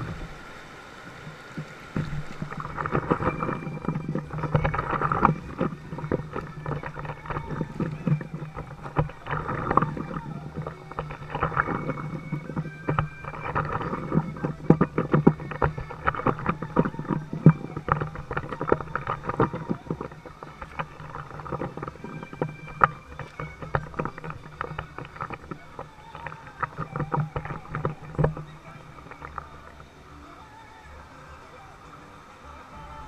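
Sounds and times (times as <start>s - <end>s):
paddle knocks and splashes: 1.5s - 29.8s.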